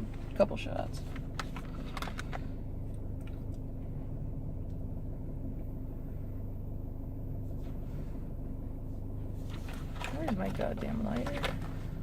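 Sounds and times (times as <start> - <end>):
low rumble inside a car: 0.0 - 12.0.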